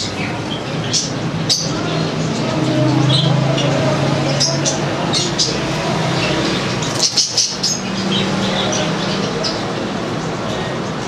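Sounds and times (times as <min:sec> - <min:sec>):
budgerigars chirping: 0:00.0 - 0:11.0
steady background noise: 0:00.0 - 0:11.0.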